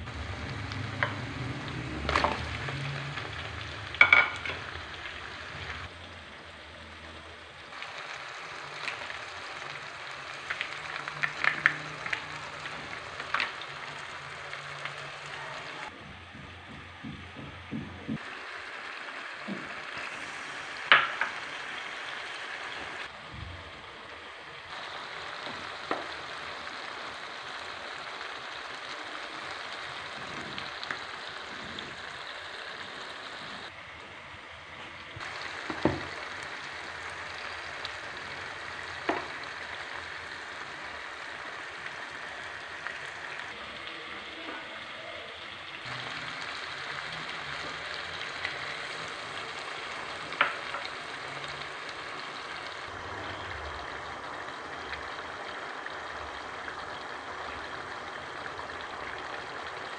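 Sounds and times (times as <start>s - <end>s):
food sizzling in oil: 0.0s - 16.0s, 18.2s - 59.9s.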